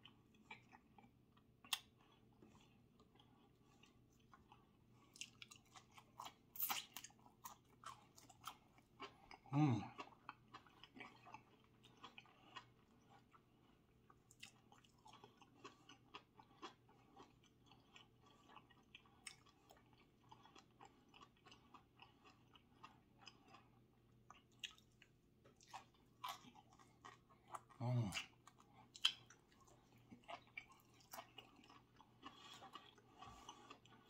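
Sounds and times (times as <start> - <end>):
close-miked chewing: 0.0 - 34.0.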